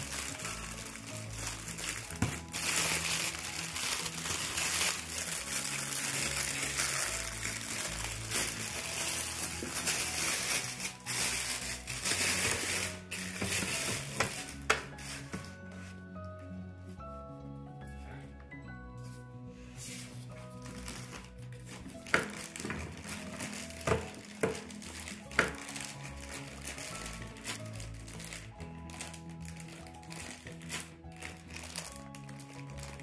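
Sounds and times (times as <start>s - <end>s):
plastic bag crinkling: 0.0s - 15.8s, 19.9s - 33.0s
background music: 0.0s - 33.0s.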